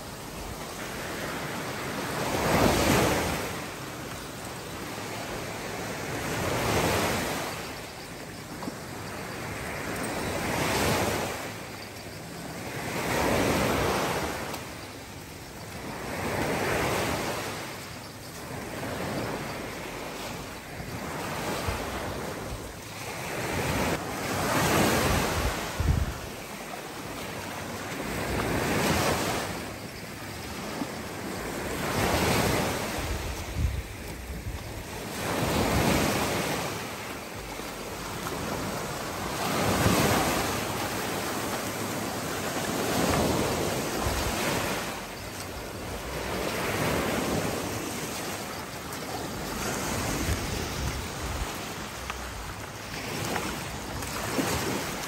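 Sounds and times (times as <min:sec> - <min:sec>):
small waves breaking on shore: 0:00.0 - 0:55.0.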